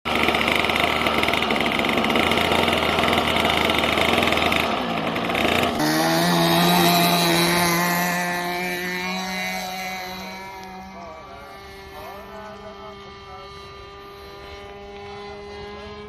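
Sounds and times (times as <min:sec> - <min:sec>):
model airplane engine buzzing: 0:00.1 - 0:16.0.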